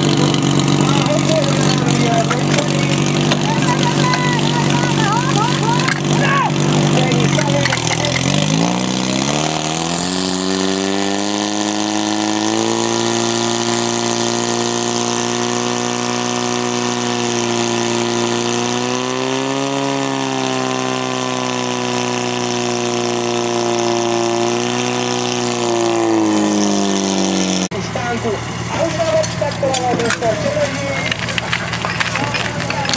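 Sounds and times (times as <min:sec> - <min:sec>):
pump engine running at high revs: 0:00.0 - 0:32.9.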